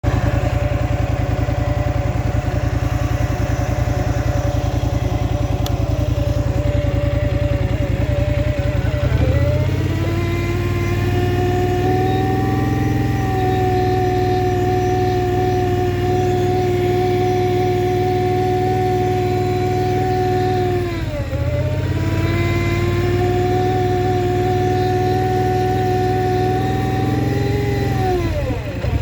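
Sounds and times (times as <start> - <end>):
atv engine running: 0.0 - 29.0
engine whine: 0.0 - 29.0.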